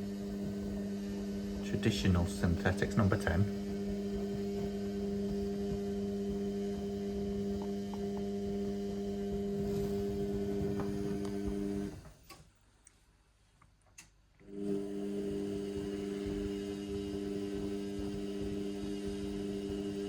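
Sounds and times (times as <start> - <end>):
washing machine drain pump humming: 0.0 - 12.2, 14.4 - 20.0.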